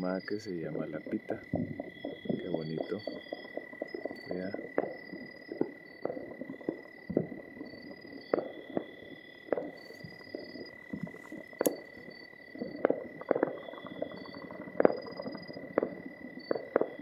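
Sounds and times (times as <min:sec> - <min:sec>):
distant fireworks and firecrackers: 0:00.0 - 0:17.0
steady high whine: 0:00.0 - 0:17.0.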